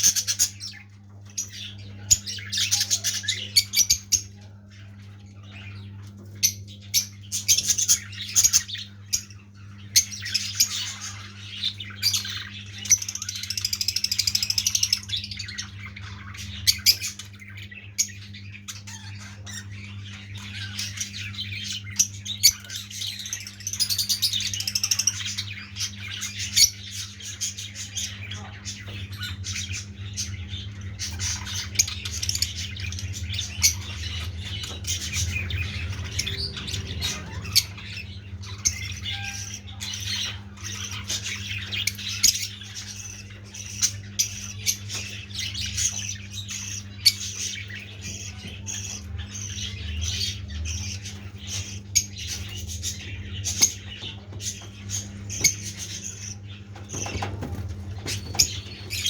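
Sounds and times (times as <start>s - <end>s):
lovebirds chattering and squawking: 0.0s - 59.0s
steady low hum: 0.0s - 59.0s.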